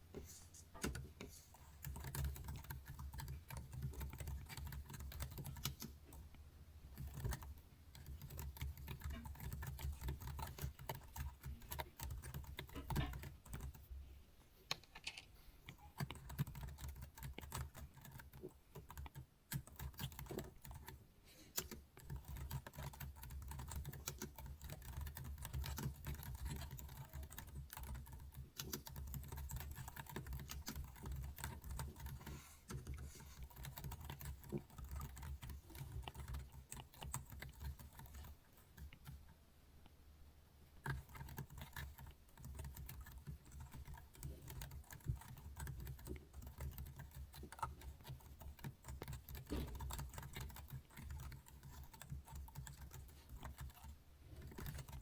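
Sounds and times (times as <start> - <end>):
computer keyboard clicking: 1.8 - 6.3, 6.9 - 13.8, 14.7 - 21.0, 21.6 - 39.2, 40.8 - 55.0.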